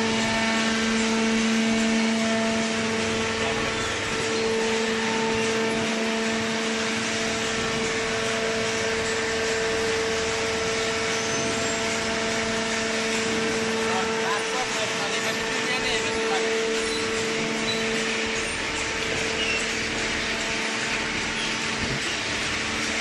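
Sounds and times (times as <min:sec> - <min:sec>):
hydraulic power unit humming: 0:00.0 - 0:23.0.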